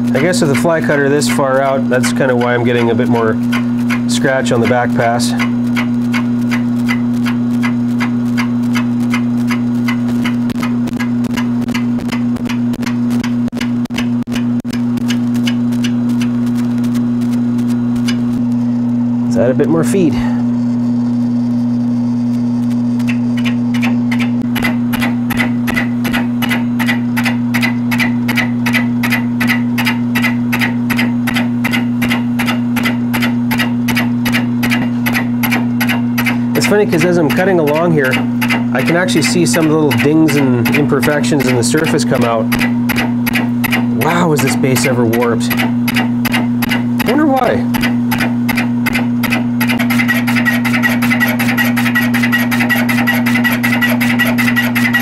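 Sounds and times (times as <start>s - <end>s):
cutter ticking on metal: 0.0s - 16.3s, 23.0s - 55.0s
milling machine hum: 0.0s - 55.0s.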